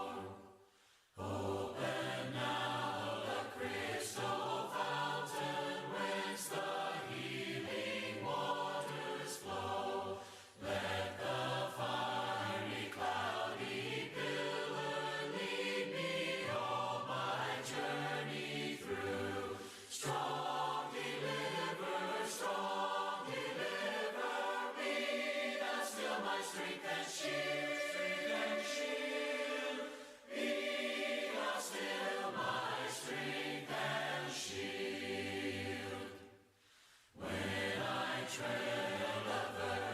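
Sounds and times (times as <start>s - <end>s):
congregation singing a hymn: 0.0s - 36.4s, 37.1s - 39.9s.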